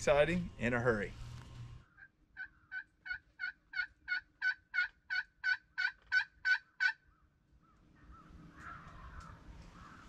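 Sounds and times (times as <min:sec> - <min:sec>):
wild turkey yelping: 0:01.9 - 0:10.0.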